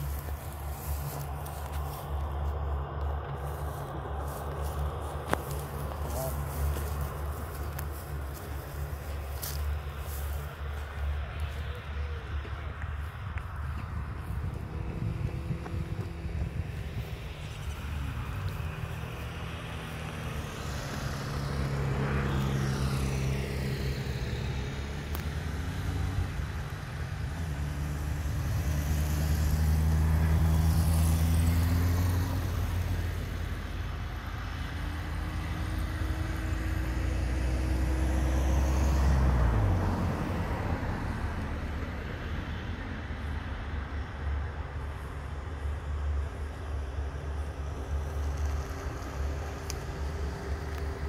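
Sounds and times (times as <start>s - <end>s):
turboprop aircraft engines running: 0.0s - 51.0s.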